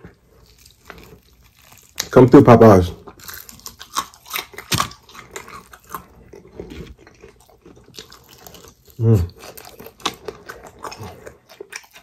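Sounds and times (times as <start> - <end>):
crunchy chewing of fried chicken: 0.0 - 12.0.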